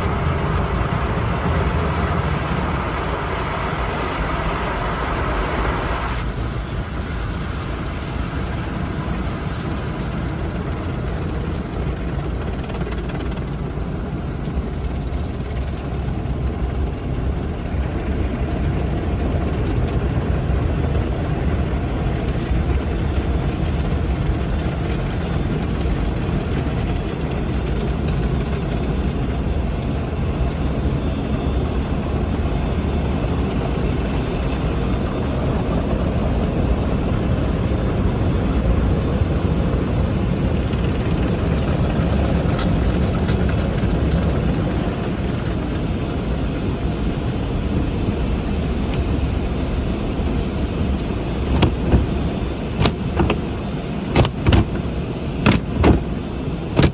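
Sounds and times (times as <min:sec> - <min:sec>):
car wash machinery and water: 0:00.0 - 0:56.9.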